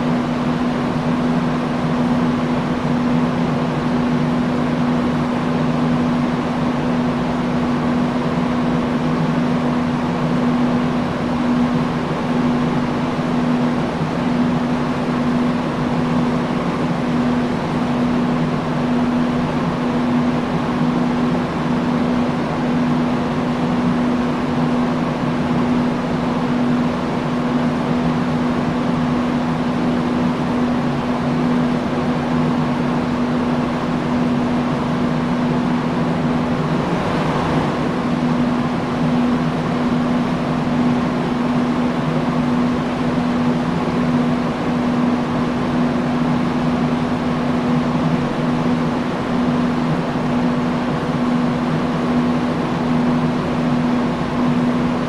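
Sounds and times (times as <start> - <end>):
fan air rushing: 0.0 - 55.0
low motor hum: 0.0 - 55.0.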